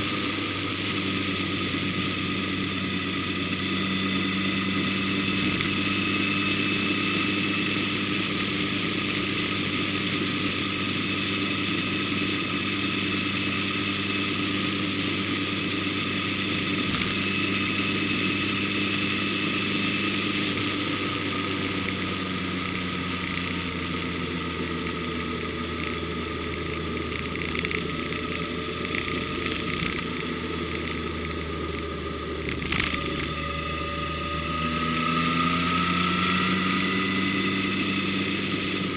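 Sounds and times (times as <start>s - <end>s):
vehicle engine running: 0.0s - 38.9s
wind and road noise: 0.0s - 38.9s.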